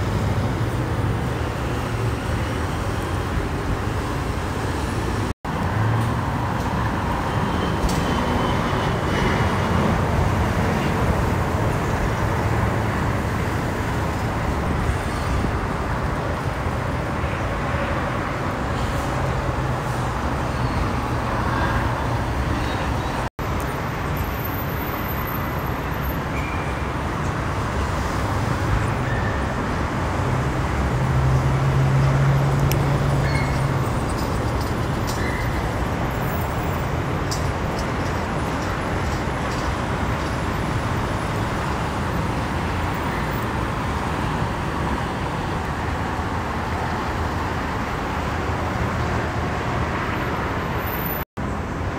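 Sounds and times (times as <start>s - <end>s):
freeway traffic rushing: 0.0s - 51.9s.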